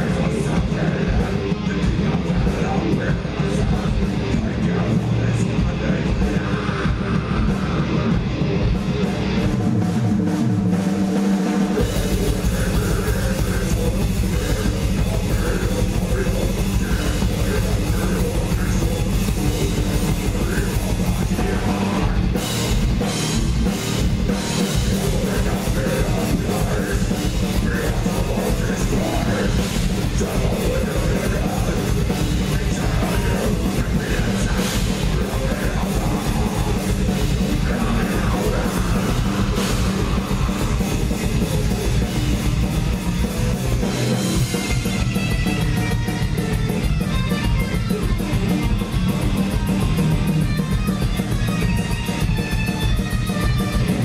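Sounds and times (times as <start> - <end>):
bass guitar: 0.0 - 54.0
distorted guitars: 0.0 - 54.0
fast drumming: 0.0 - 54.0.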